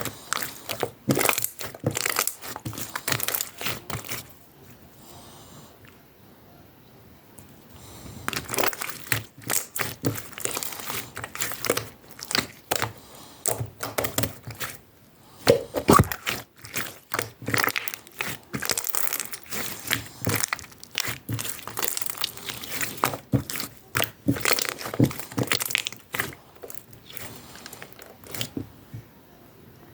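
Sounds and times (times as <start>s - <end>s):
slime clicking and crackling: 0.0s - 4.3s, 8.3s - 14.8s, 15.4s - 28.7s.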